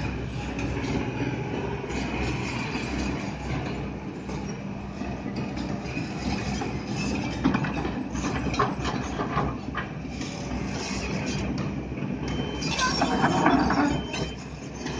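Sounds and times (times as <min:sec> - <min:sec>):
excavator diesel hum: 0:00.0 - 0:14.9.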